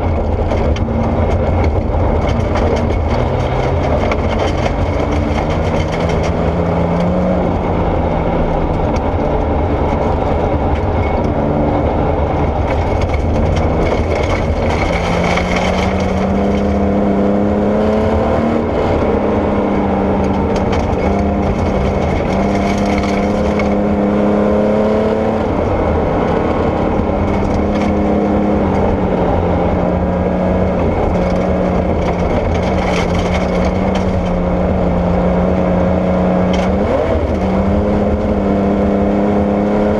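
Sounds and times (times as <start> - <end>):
car engine accelerating and shifting: 0.0 - 39.9
gravel and tyre rush: 0.0 - 39.9.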